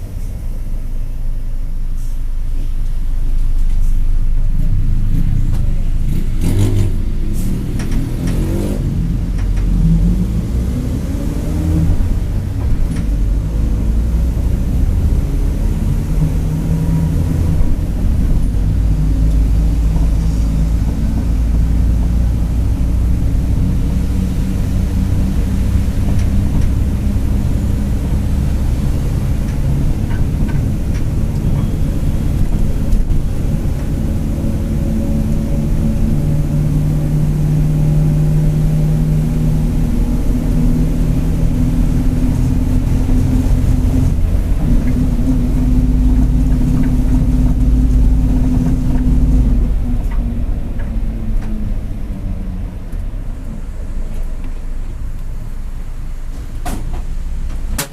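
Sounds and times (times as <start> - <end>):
bus diesel engine pulling: 0.0 - 57.9.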